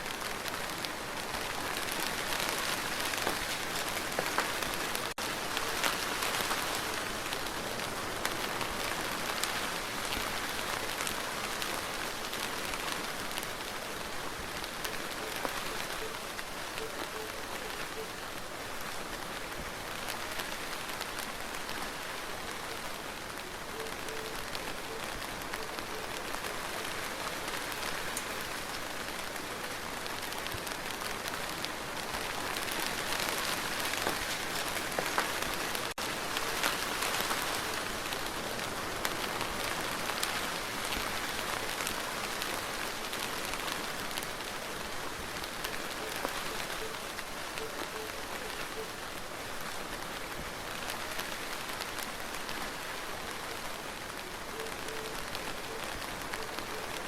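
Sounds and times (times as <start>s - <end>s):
steady rain on a surface: 0.0s - 57.0s.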